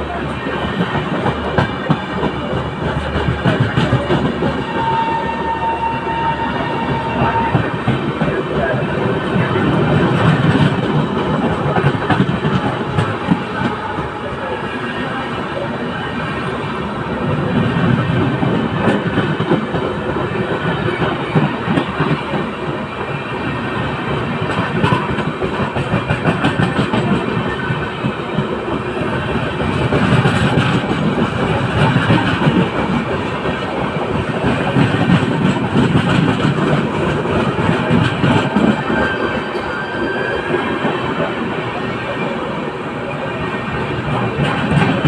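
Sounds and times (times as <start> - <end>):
train wheels knocking on rails: 0.5 - 14.2, 17.1 - 41.5, 43.4 - 45.0.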